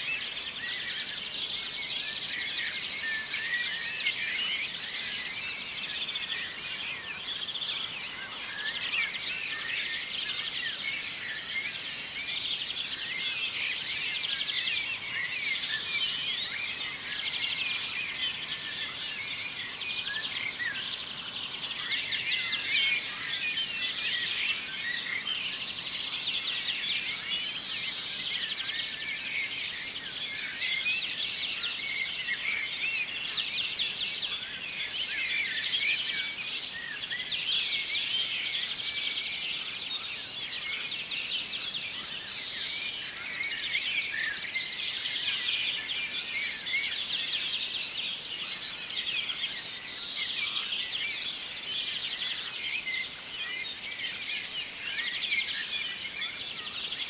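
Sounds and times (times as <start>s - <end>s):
many songbirds singing: 0.0s - 57.0s.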